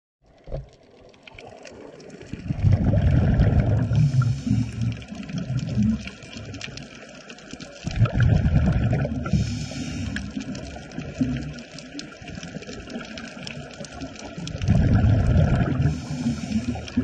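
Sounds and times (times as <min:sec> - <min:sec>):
crackling clicks: 0:00.2 - 0:17.0
underwater bubbles rumbling: 0:00.3 - 0:17.0.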